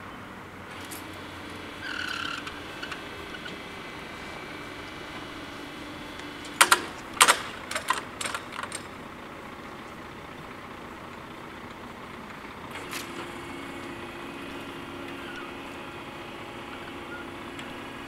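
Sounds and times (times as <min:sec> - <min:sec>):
barrier drives humming: 0:00.0 - 0:18.0.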